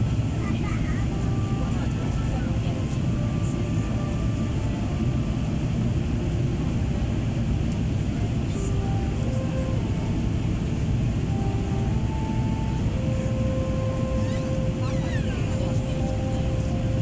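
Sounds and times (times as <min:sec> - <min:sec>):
jet airliner cabin rumble: 0:00.0 - 0:17.0.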